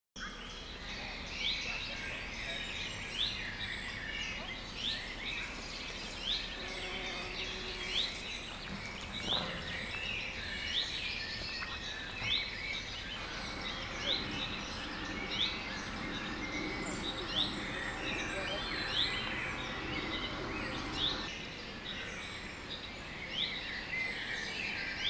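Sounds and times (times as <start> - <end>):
steady background noise: 0.2 - 25.0.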